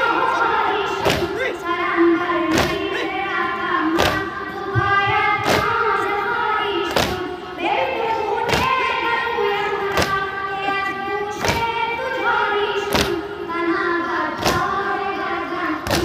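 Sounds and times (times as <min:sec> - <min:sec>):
crowd beating chests in unison: 0:00.0 - 0:07.6, 0:08.2 - 0:13.5, 0:14.2 - 0:16.0
boy singing into a microphone: 0:00.0 - 0:16.0.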